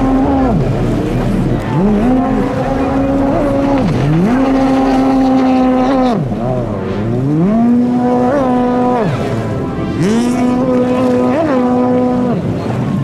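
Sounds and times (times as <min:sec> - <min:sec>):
jet ski engine revving: 0:00.0 - 0:13.0.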